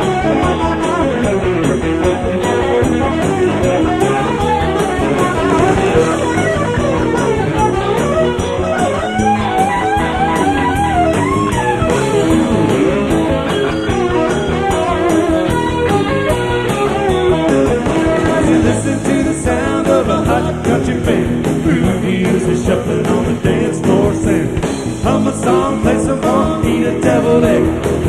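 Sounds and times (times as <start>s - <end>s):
bass guitar: 0.0s - 28.0s
drum kit: 0.0s - 28.0s
electric guitar lead with bends: 0.0s - 28.0s
strummed rhythm guitar: 0.0s - 28.0s.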